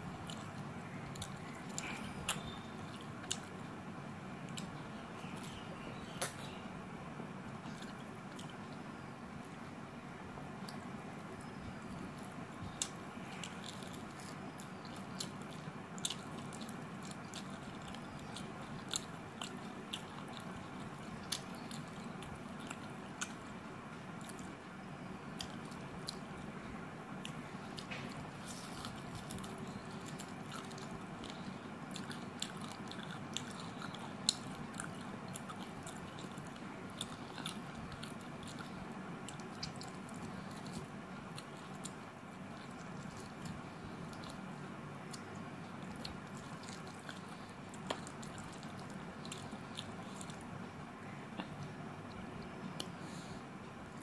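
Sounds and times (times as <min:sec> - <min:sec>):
person chewing food: 0:00.0 - 0:03.8, 0:07.5 - 0:08.8, 0:10.6 - 0:50.7.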